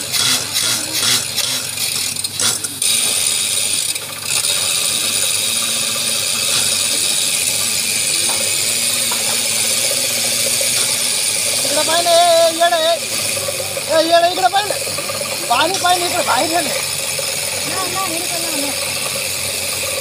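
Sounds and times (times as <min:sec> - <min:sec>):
loud steady hissing: 0:00.0 - 0:20.0.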